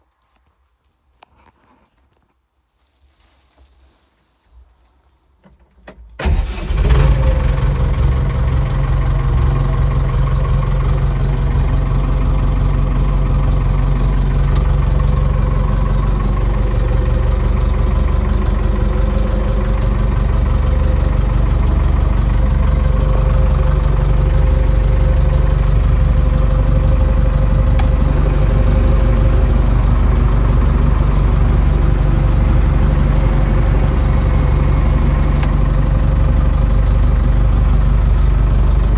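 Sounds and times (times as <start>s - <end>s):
backhoe engine starting and idling: 5.6s - 38.9s.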